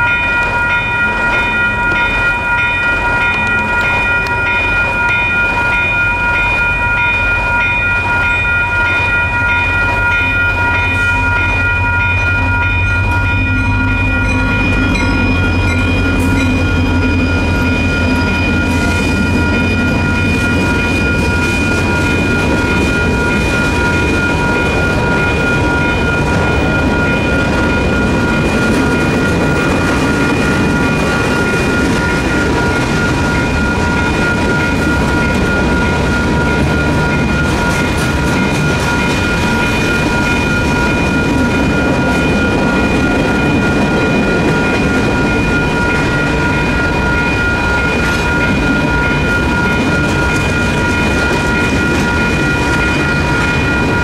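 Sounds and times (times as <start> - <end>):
crossing bell ringing: 0.0 - 54.0
freight cars clattering on rails: 0.0 - 54.0
locomotive engine rumble: 6.7 - 54.0.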